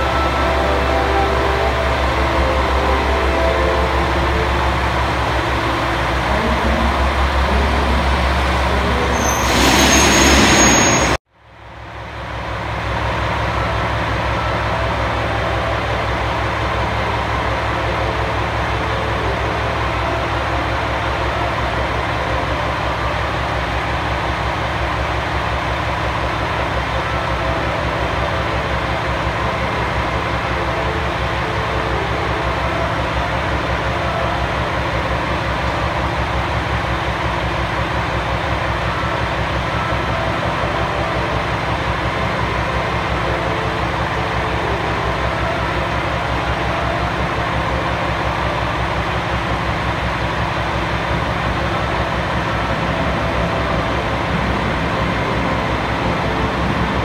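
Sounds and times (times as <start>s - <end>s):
diesel railcar engine idling: 0.0s - 57.0s.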